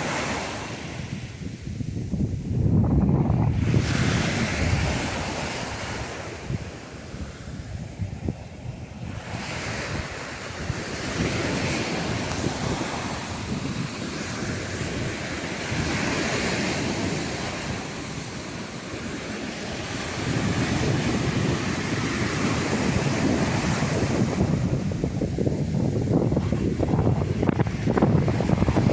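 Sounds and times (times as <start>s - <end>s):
sea surf washing onto a beach: 0.0s - 28.9s
wind buffeting the microphone: 0.0s - 28.9s.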